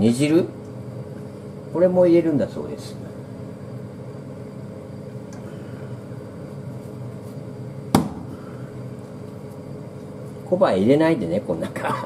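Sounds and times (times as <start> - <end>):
kitchen hum: 0.0 - 12.0.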